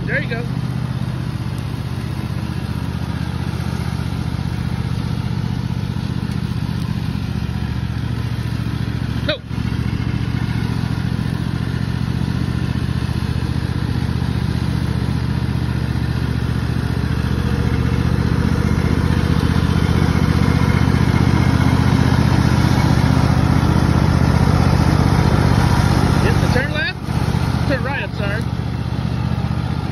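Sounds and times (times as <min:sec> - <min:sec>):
riding lawn mower engine: 0:00.0 - 0:29.9.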